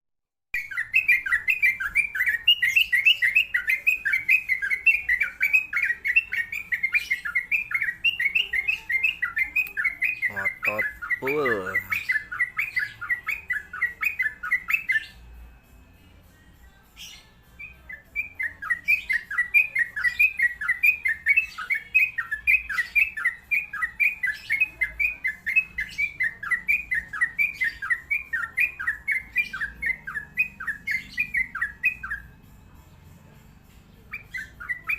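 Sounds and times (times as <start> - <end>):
bird singing chattering notes: 0.6 - 15.2, 17.0 - 32.4, 34.1 - 34.9.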